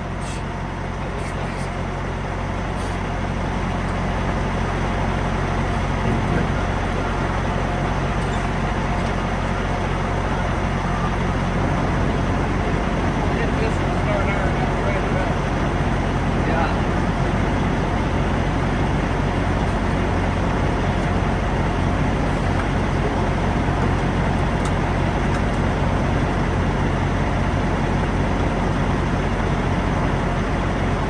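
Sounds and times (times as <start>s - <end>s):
diesel truck engine droning: 0.0s - 31.0s
road noise: 0.0s - 31.0s.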